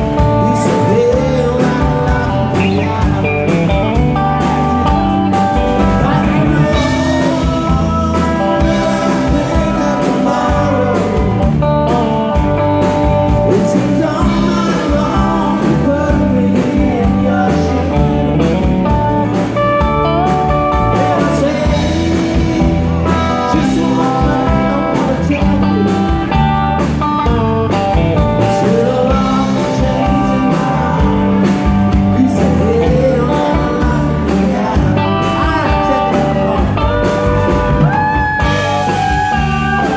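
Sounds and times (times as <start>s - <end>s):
man singing: 0.0s - 19.5s, 20.1s - 39.9s
drums: 0.0s - 39.9s
electric guitars: 0.0s - 39.9s.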